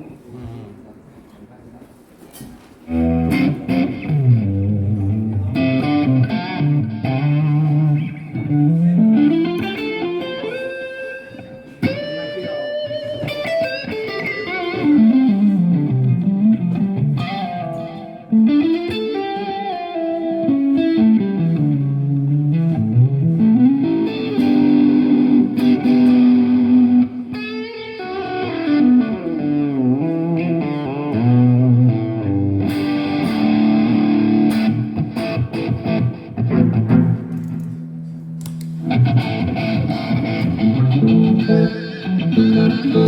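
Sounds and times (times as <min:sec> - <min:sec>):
electric guitar lead line: 0:02.9 - 0:43.0.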